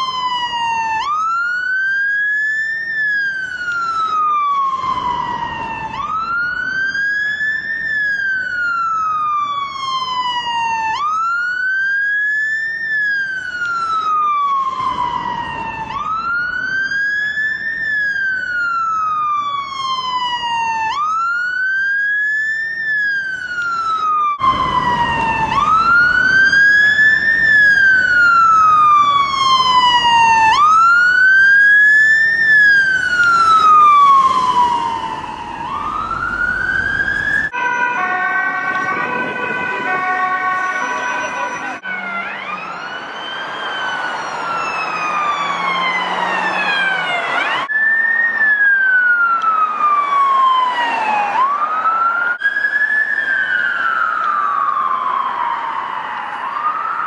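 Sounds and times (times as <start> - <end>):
held siren tones: 0.0 - 57.0
police siren wailing: 0.0 - 57.0
road noise: 0.0 - 57.0.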